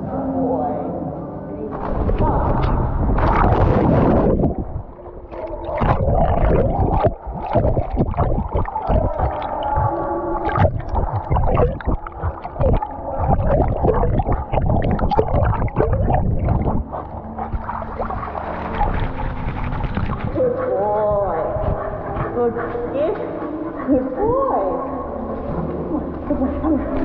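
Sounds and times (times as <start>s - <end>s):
muffled underwater churning: 1.8s - 27.0s
water sloshes and knocks: 1.8s - 27.0s.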